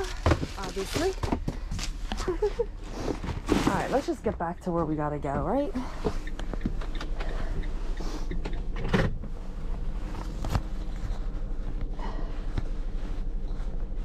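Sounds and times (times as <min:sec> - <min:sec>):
van engine humming: 0:00.0 - 0:14.0.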